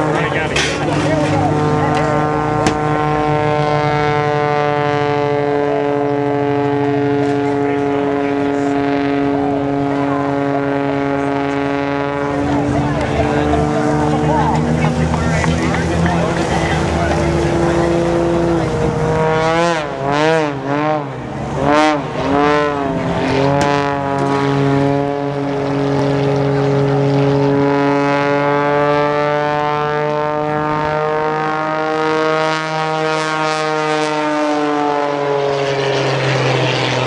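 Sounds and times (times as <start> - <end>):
propeller plane engine drone: 0.0 - 37.0.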